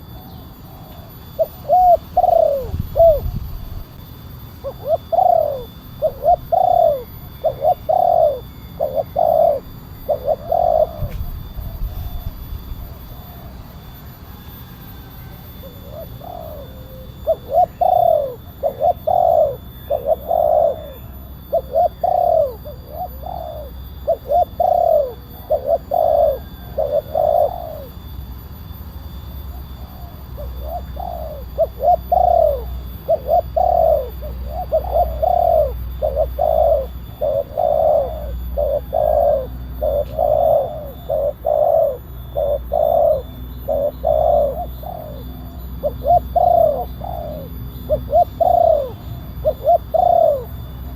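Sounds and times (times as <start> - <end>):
dove cooing: 0.0 - 50.9
steady low hum: 0.0 - 50.9.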